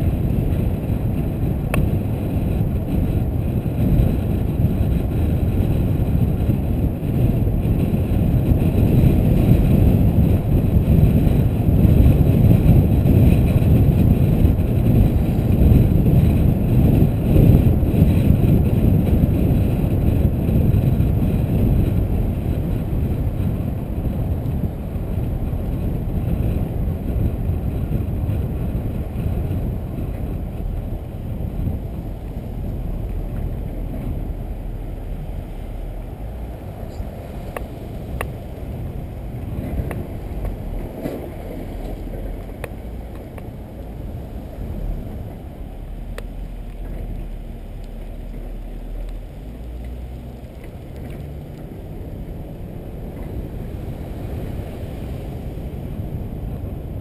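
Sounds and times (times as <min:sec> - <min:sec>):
car driving rumble: 0:00.0 - 0:57.0
wind noise: 0:00.0 - 0:57.0.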